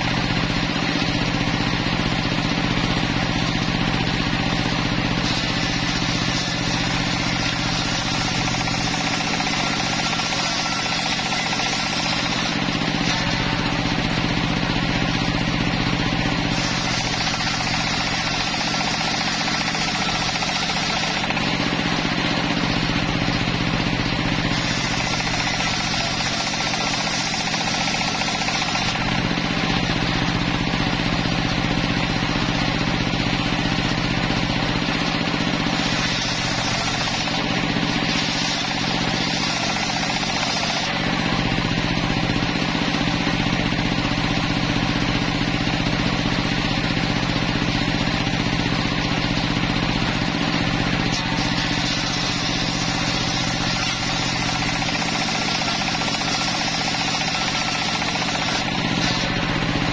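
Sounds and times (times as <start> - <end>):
circular saw cutting wood: 0.0 - 59.9
saw motor humming: 0.0 - 59.9.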